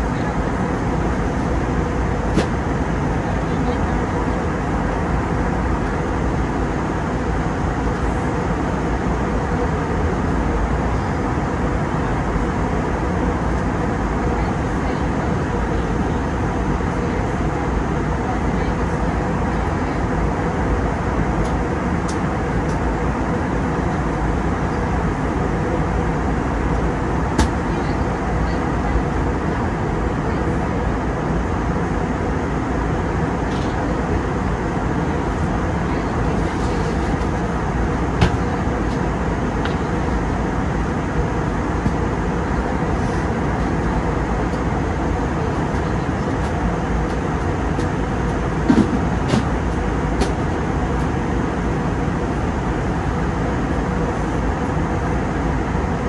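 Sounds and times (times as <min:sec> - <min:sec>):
aircraft cabin engine hum: 0:00.0 - 0:56.0.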